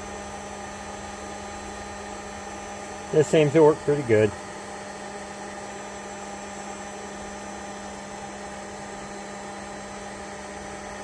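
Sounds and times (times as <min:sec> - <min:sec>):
heat gun humming: 0:00.0 - 0:11.0.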